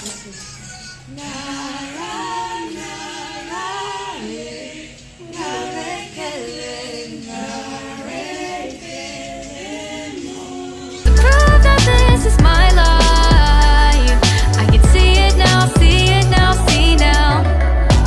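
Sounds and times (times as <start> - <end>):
unaccompanied choir singing: 1.0 - 18.0.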